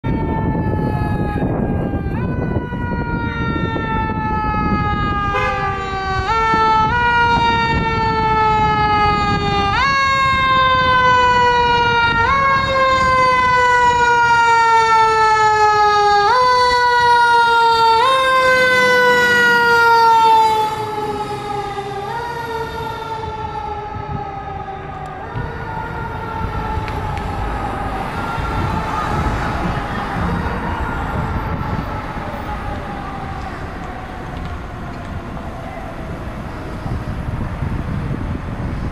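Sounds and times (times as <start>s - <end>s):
fire engine siren: 0.0s - 38.9s.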